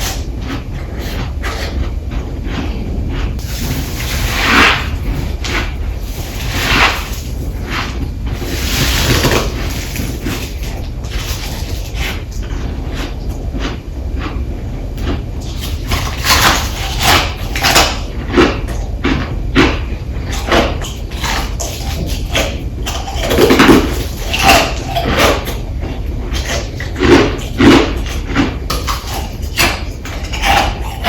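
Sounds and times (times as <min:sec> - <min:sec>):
chewing frozen frost crunching: 0:00.0 - 0:31.0.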